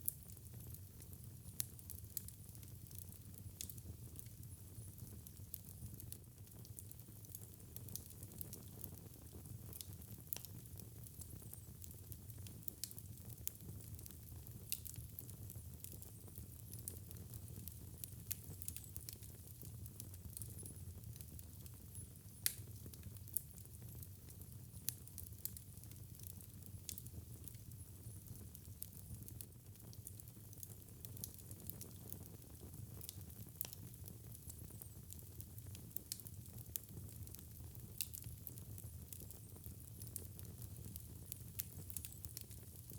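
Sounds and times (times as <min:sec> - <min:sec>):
fireplace fire crackling: 0:00.0 - 0:42.9.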